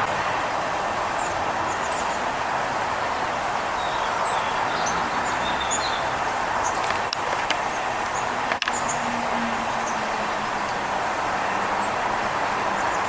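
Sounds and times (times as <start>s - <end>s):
steady rushing background noise: 0.0s - 13.0s
small birds chirping: 1.0s - 13.0s.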